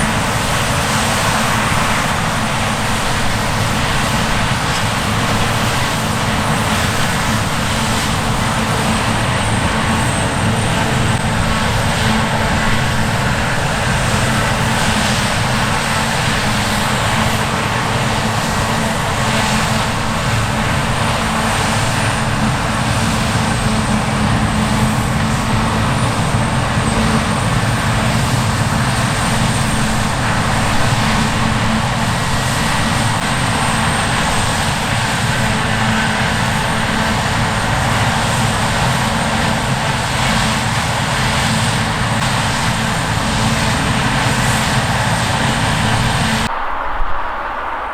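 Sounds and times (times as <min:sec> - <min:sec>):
diesel machinery engine drone: 0:00.0 - 0:47.9.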